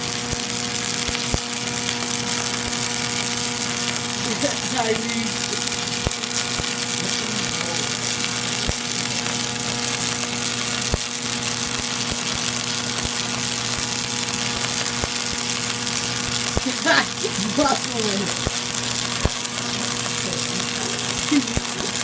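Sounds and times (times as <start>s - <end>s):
machine hum: 0.0s - 22.0s
welding arc crackling hiss: 0.0s - 22.0s
sharp pops: 0.1s - 22.0s.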